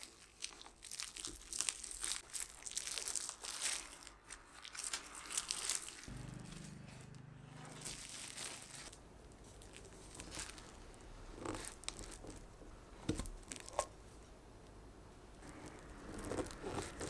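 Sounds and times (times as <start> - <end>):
plastic cling wrap crinkling: 0.0 - 6.1, 7.8 - 13.9, 15.4 - 17.0.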